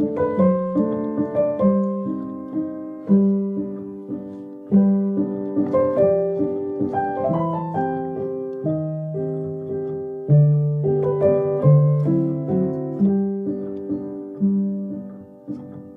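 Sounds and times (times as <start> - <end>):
gentle piano music: 0.0 - 15.9.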